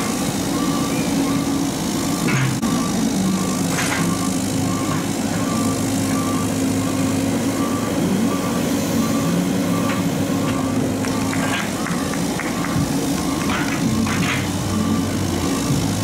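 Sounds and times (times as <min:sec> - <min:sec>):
excavator diesel engine running: 0:00.0 - 0:16.0
backup alarm beeping: 0:00.6 - 0:16.0.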